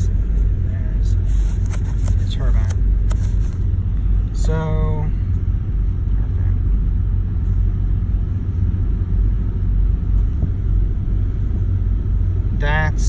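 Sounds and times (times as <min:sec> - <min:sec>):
car interior engine and road noise: 0:00.0 - 0:13.0.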